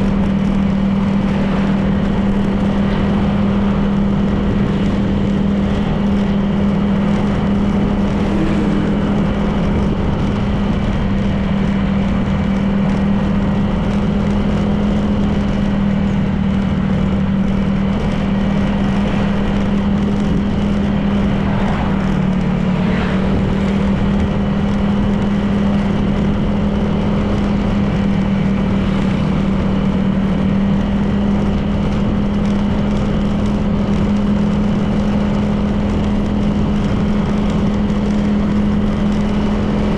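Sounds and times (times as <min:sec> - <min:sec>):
scooter engine humming: 0:00.0 - 0:39.9
wind and road noise: 0:00.0 - 0:39.9.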